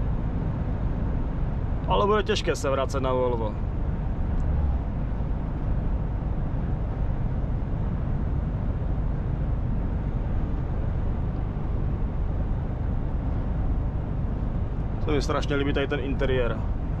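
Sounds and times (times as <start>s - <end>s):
truck engine rumbling: 0.0s - 17.0s
tyres on the road: 0.0s - 17.0s.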